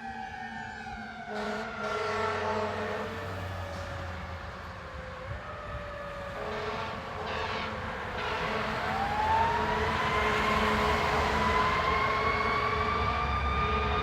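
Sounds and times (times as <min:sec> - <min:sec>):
siren wailing: 0:00.0 - 0:03.8, 0:04.7 - 0:14.0.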